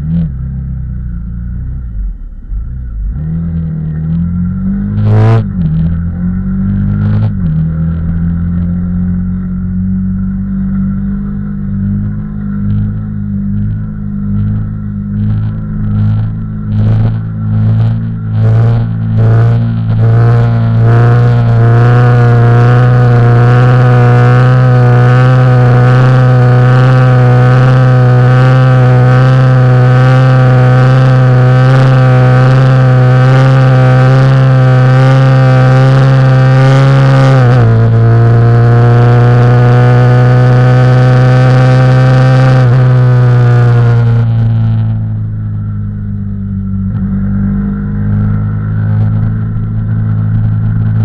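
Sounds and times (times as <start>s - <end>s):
motorcycle engine revving high: 0.0s - 51.0s.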